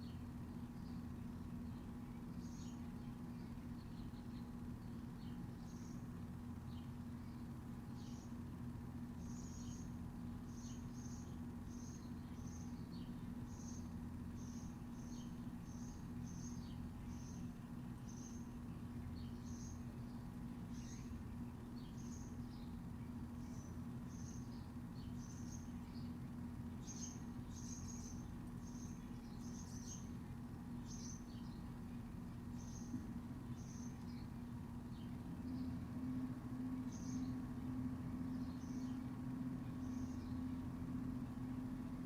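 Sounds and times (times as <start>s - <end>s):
small birds chirping: 0.0s - 42.0s
steady low hum: 0.0s - 42.0s.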